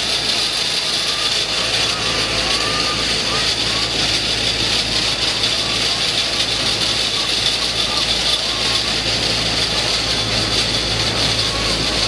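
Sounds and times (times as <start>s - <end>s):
constant high hiss: 0.0s - 12.0s
steady hum: 0.0s - 12.0s.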